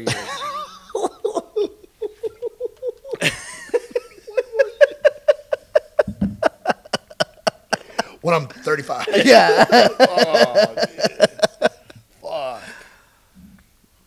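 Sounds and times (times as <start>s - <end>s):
men laughing hard: 0.0s - 12.8s.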